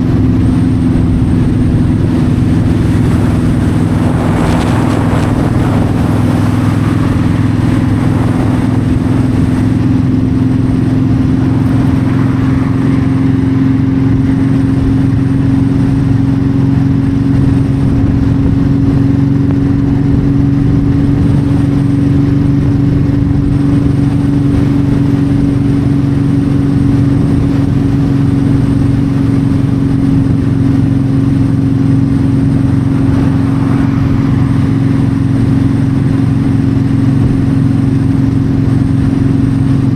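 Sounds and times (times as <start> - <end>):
motorcycle engine cruising: 0.0 - 39.9
road noise: 0.0 - 39.9
wind noise: 0.0 - 39.9.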